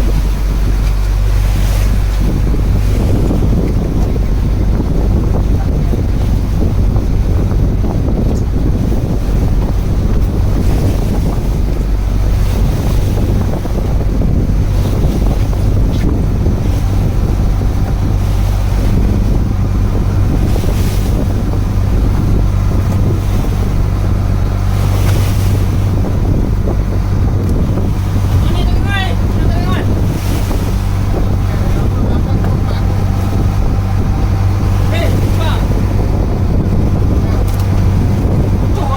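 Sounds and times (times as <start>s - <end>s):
boat engine humming: 0.0s - 38.9s
sea wash: 0.0s - 38.9s
wind buffeting microphone: 0.0s - 38.9s.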